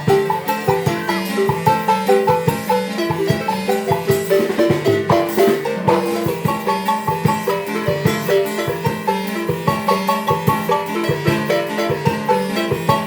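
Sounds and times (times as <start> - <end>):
marimba playing lively tune: 0.0 - 13.0
rhythmic bass line: 0.0 - 13.0.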